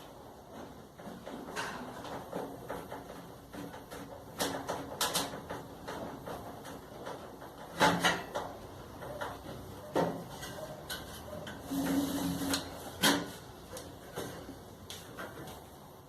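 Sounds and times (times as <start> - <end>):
hard parts knocking and clicking: 0.4 - 15.9.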